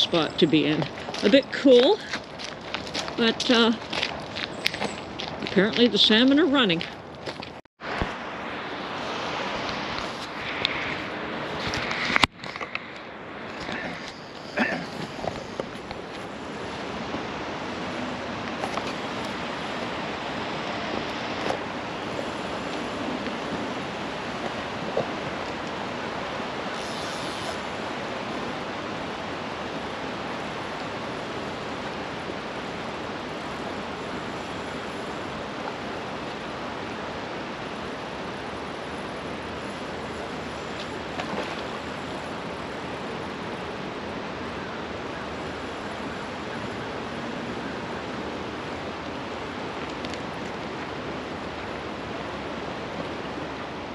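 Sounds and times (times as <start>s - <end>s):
river water rushing over rocks: 7.8s - 53.9s.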